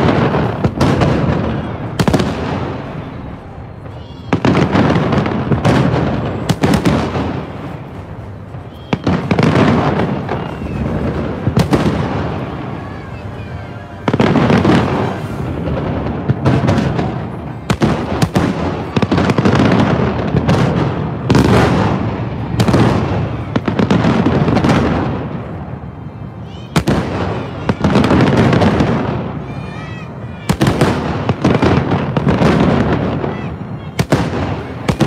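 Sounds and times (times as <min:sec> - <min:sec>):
fireworks bursting with echo: 0:00.0 - 0:35.0.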